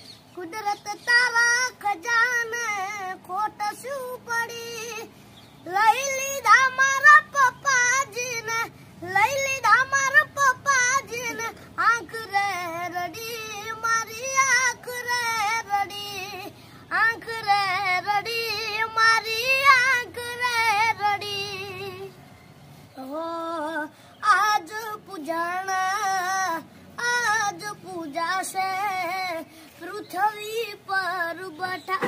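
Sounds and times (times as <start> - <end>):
boy singing solo: 0.2 - 22.2, 23.0 - 32.0.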